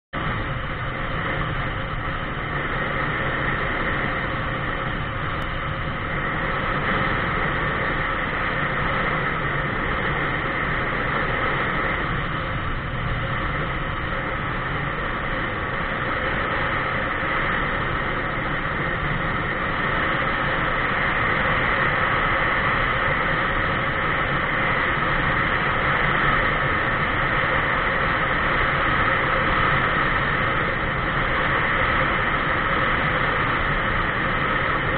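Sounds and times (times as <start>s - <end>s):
road noise: 0.1s - 34.9s
rushing wind: 0.1s - 34.9s.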